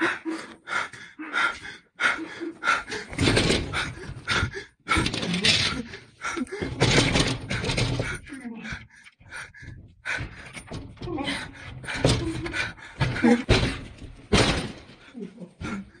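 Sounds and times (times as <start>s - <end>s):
person panting and gasping: 0.0s - 16.0s.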